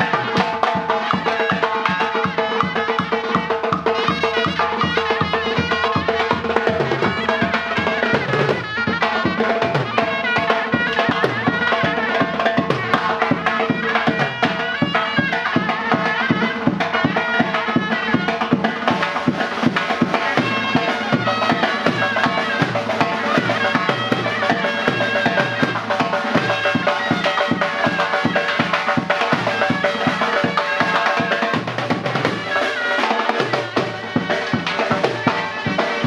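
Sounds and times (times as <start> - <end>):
fast steady drumming: 0.0 - 36.0
shawm playing a melody: 0.0 - 36.0.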